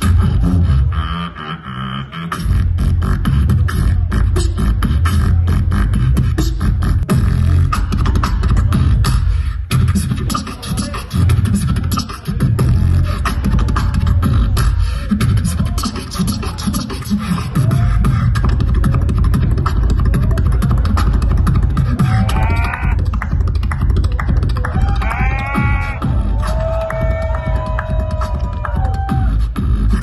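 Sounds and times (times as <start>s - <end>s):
beatboxing through speakers: 0.0s - 30.0s
heavy bass: 0.0s - 30.0s.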